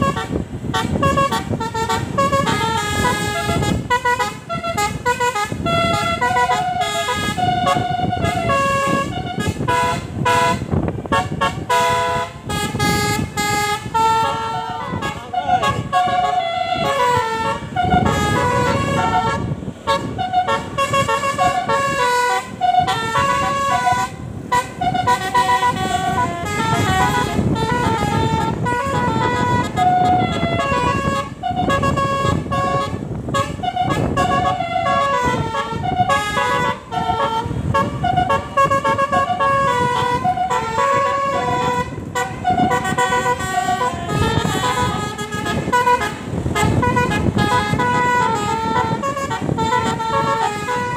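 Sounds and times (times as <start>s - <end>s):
bus multi-tone horn melody: 0.0s - 50.9s.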